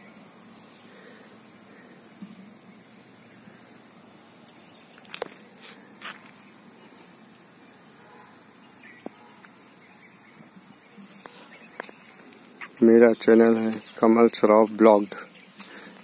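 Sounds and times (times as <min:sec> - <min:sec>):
insects singing: 0:00.0 - 0:16.0.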